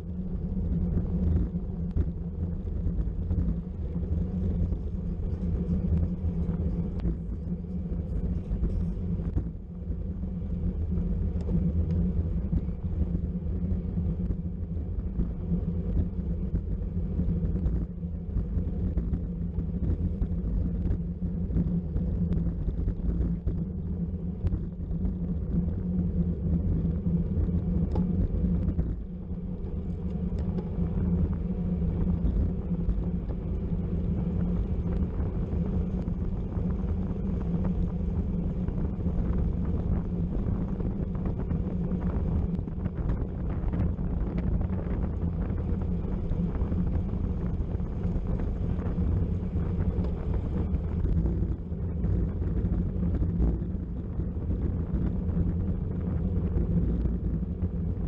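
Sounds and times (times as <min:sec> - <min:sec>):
bicycle road rumble: 0:00.0 - 0:58.0
wind rush over microphone: 0:00.0 - 0:58.0.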